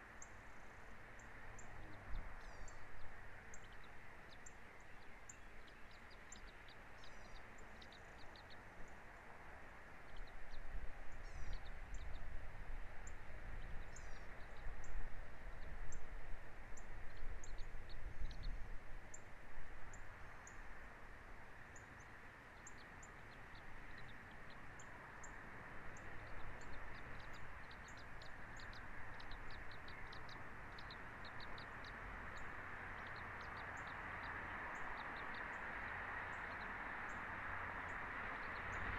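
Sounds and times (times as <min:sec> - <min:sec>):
birds chirping: 0:00.0 - 0:38.9
low wind rumble on microphone: 0:00.0 - 0:38.9
steady outdoor hiss: 0:00.0 - 0:38.9.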